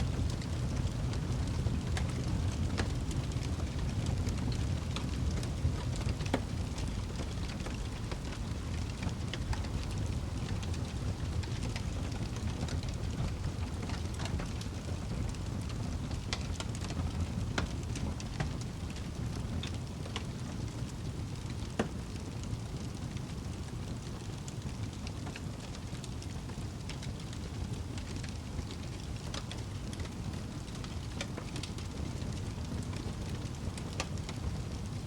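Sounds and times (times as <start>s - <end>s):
fire crackles and pops: 0.0s - 35.0s
low rumble of flames: 0.0s - 35.0s.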